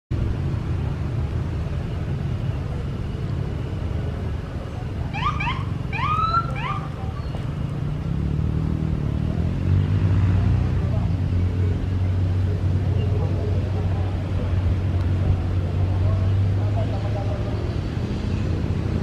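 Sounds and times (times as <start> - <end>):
fire truck engine rumble: 0.1 - 19.0
motorcycle engines rumbling: 0.1 - 19.0.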